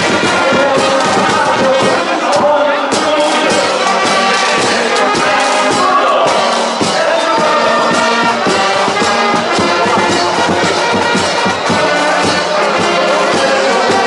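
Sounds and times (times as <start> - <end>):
brass band playing loudly: 0.0 - 14.0.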